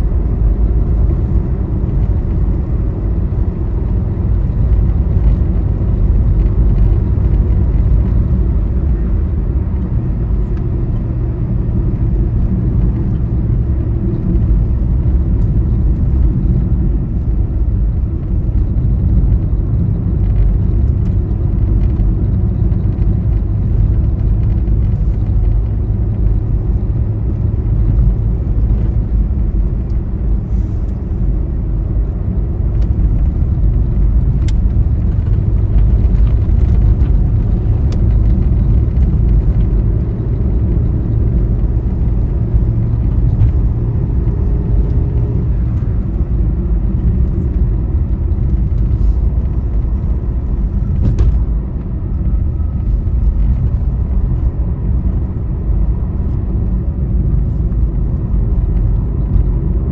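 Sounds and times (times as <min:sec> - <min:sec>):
vehicle road noise and engine: 0:00.0 - 0:59.9.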